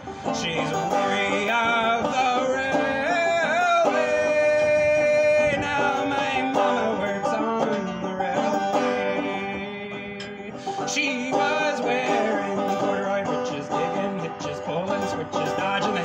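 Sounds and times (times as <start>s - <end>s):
banjo plucking: 0.0s - 16.0s
person singing: 0.0s - 16.0s.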